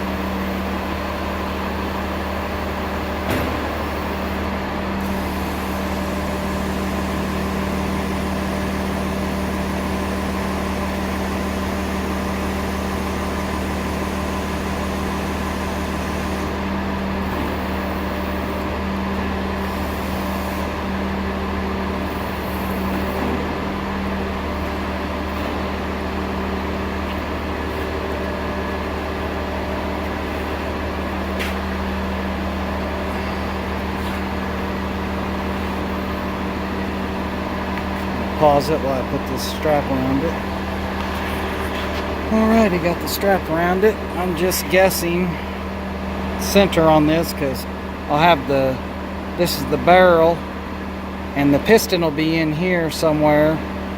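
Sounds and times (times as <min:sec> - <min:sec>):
engine humming steadily: 0:00.0 - 0:53.9.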